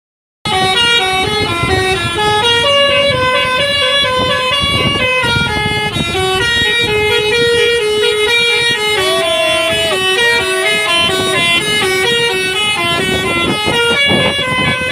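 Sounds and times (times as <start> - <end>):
bus horn playing tune: 0.5 - 14.9.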